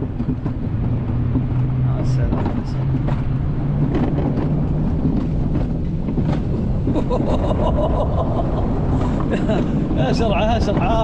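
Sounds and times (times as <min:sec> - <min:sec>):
wheels rumbling on metal track: 0:00.0 - 0:11.0
wind buffeting microphone: 0:00.0 - 0:11.0.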